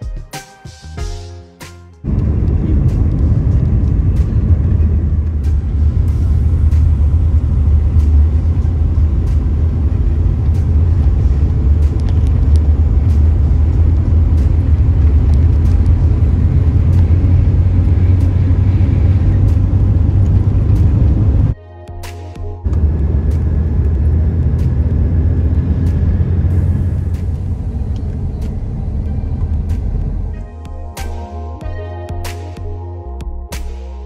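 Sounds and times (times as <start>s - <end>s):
road and engine rumble in car: 2.0s - 21.6s, 22.6s - 30.4s.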